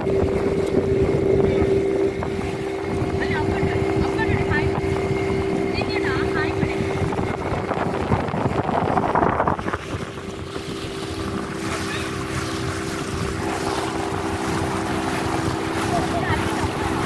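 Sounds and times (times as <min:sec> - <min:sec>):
motorboat engine humming: 0:00.0 - 0:17.0
water rushing along hull: 0:00.0 - 0:17.0
wind on microphone: 0:00.0 - 0:17.0.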